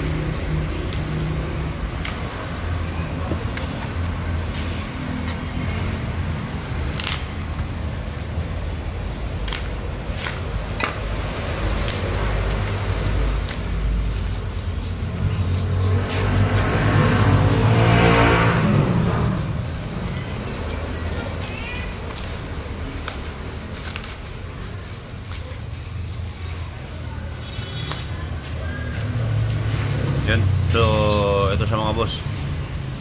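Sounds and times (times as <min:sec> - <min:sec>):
low rumble of road traffic: 0:00.0 - 0:33.0.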